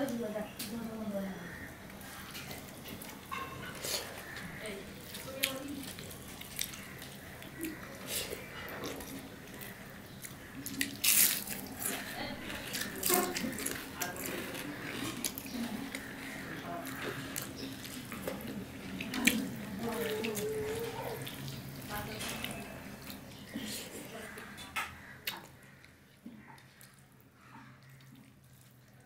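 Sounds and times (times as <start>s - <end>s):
wet squelching of food: 0.0s - 29.0s.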